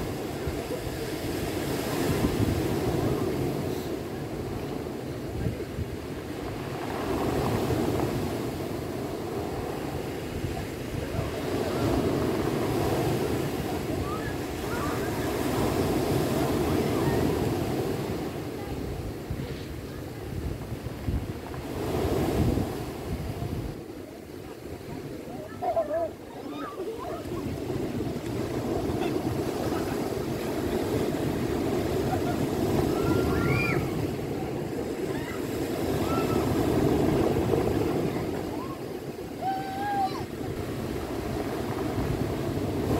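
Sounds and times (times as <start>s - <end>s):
surf breaking on stony beach: 0.0s - 42.9s.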